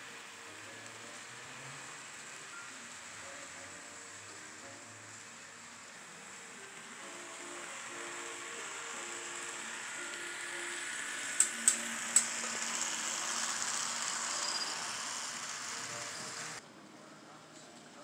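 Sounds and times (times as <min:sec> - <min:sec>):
model train wheels and motor hiss: 0:00.0 - 0:16.6
faint background music: 0:00.0 - 0:18.0.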